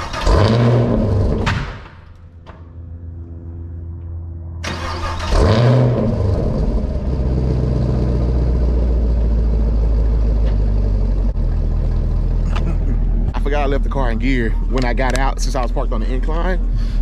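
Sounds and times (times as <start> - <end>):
car engine revving and idling: 0.0 - 1.8, 2.7 - 17.0.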